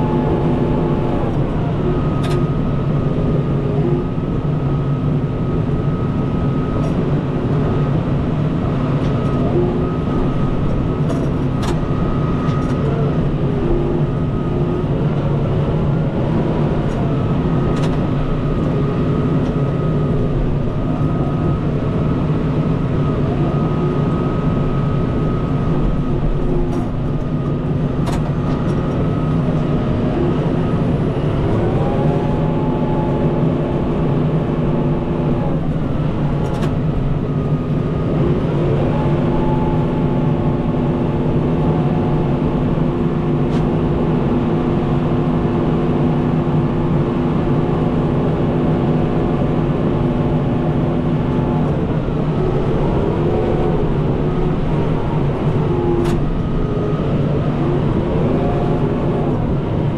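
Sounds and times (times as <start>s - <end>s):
steady high whine: 0.0s - 59.9s
tractor diesel engine running: 0.0s - 59.9s.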